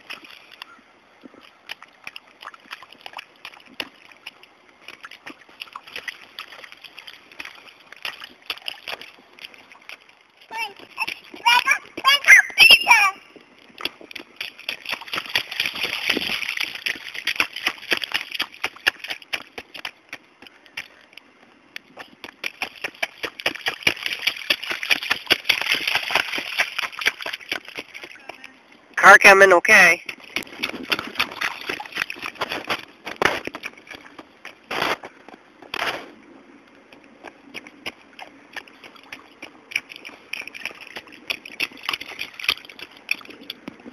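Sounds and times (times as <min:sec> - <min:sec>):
rain boots splashing in puddle: 0:00.0 - 0:13.0, 0:13.7 - 0:21.0, 0:21.9 - 0:28.5, 0:29.9 - 0:36.1, 0:37.2 - 0:43.9.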